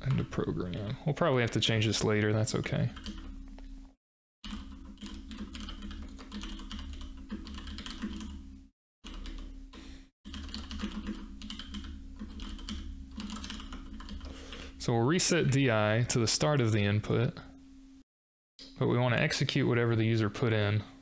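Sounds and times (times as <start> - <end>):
low electrical hum: 0.0 - 18.0, 18.6 - 21.0.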